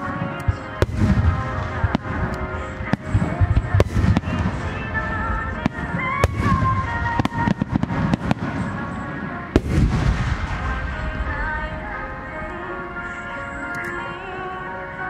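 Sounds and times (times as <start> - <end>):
music playing: 0.0 - 15.0.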